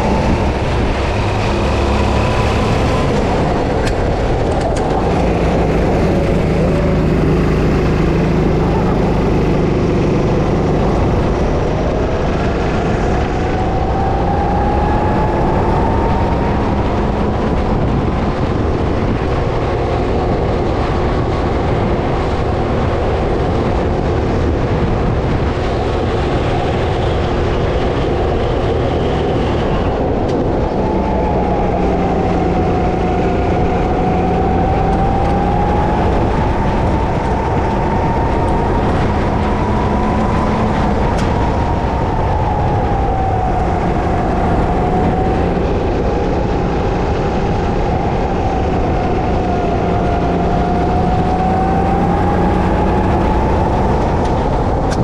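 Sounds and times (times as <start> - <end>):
go-kart engine racing: 0.0 - 55.0
steady rush of noise: 0.0 - 55.0.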